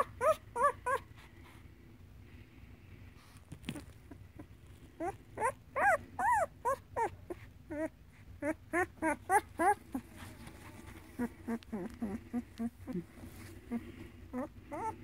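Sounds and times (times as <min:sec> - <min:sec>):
puppy whimpering: 0:00.0 - 0:01.2, 0:03.7 - 0:15.0.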